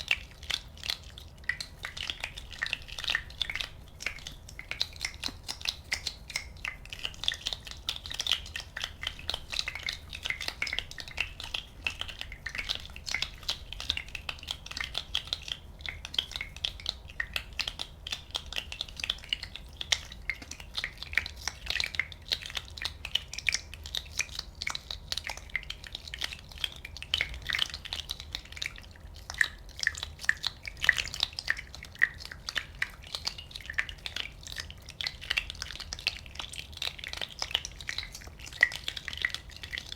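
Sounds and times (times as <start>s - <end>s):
small bubbles popping: 0.0s - 39.9s.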